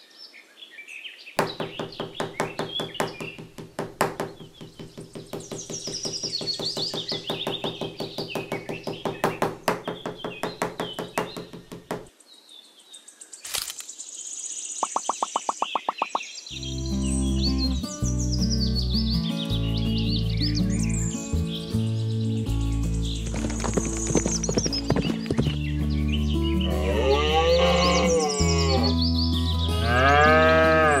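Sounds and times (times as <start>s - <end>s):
birds chirping: 1.4s - 31.0s.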